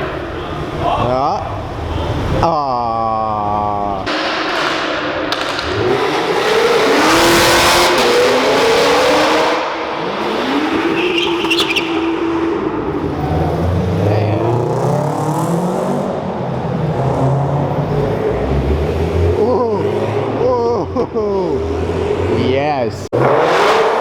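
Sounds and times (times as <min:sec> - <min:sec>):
cars accelerating hard: 0:00.0 - 0:24.0.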